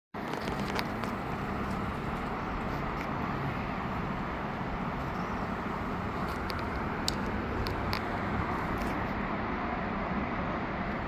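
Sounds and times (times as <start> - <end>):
low outdoor background rumble: 0.2 - 11.0.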